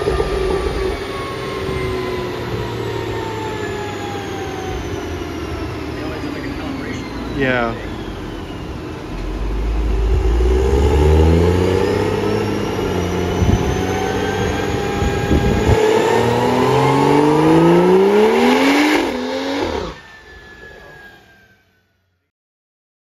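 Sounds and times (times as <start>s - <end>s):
turbocharged engine at full load: 0.0s - 22.0s.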